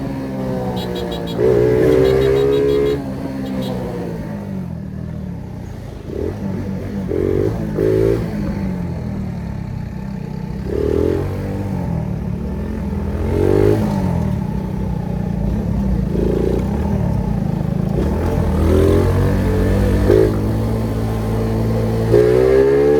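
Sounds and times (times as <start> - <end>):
moped engine running: 0.0 - 7.7, 8.7 - 22.2.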